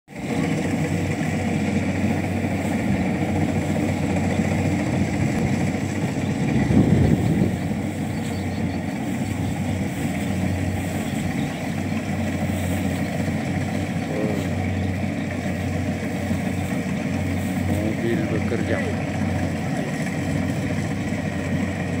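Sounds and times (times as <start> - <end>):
harvesting machine engine droning: 0.1 - 22.0.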